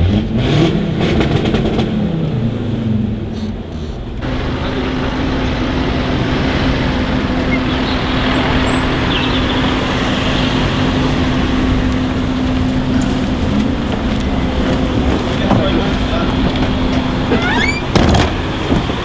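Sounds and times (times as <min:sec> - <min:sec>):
car engine droning while driving: 0:00.0 - 0:19.0.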